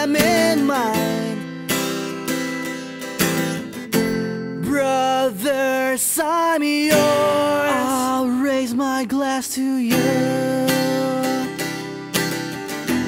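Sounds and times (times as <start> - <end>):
person singing: 0.0 - 2.1, 3.3 - 13.0
acoustic guitar strumming: 0.0 - 13.0.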